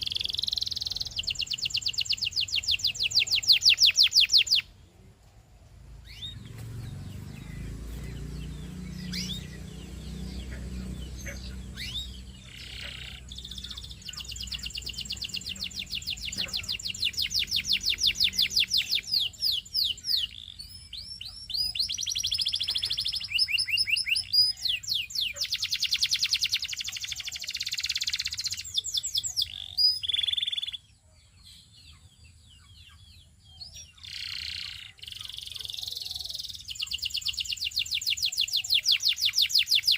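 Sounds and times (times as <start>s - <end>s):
canary singing trills: 0.0s - 4.8s, 5.9s - 39.9s
faint bird chirps: 0.0s - 39.9s.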